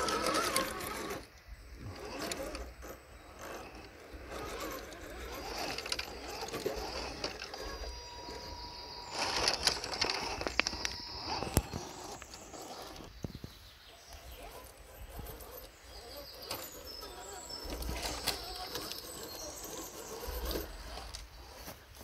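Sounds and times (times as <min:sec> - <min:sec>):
toy truck motor whining: 0:00.0 - 0:13.2, 0:14.2 - 0:22.0.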